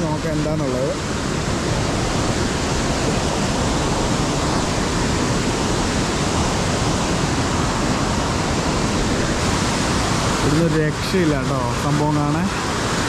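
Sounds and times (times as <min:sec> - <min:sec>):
water rushing in a stream: 0:00.0 - 0:13.0.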